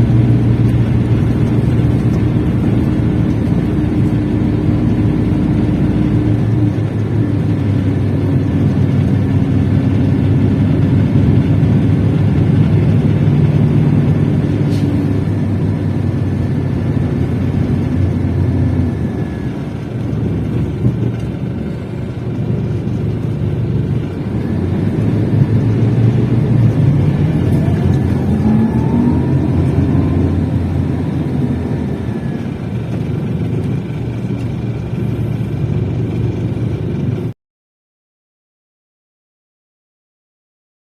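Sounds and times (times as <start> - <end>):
coach engine droning: 0.0 - 37.3.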